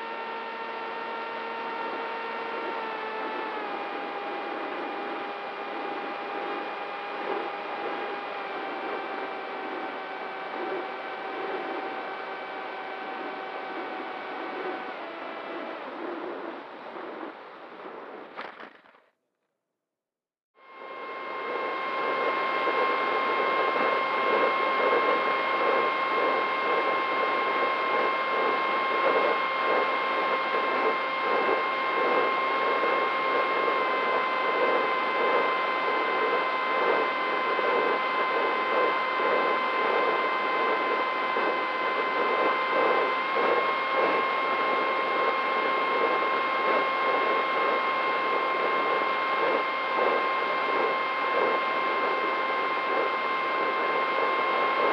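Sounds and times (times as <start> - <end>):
motor and propeller whine: 0.0 - 18.6, 20.7 - 54.9.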